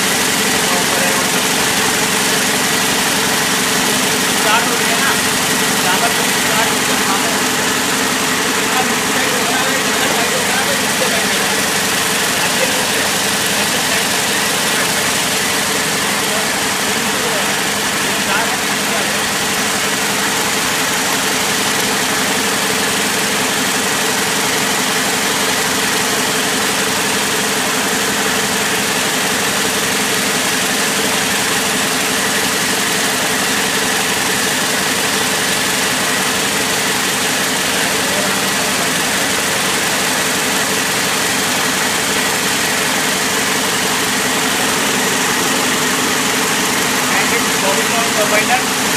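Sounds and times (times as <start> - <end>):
braiding machines running: 0.0 - 48.9.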